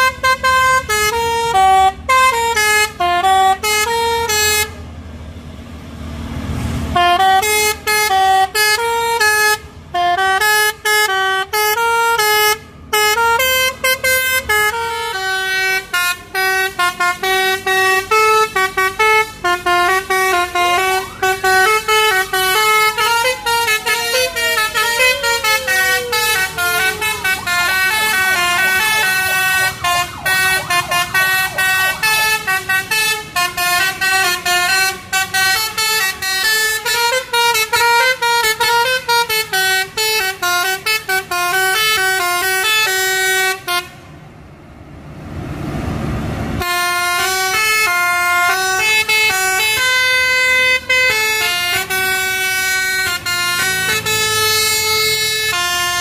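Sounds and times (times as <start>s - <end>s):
multi-tone bus horn melody: 0.0s - 4.9s, 6.9s - 44.1s, 46.6s - 56.0s.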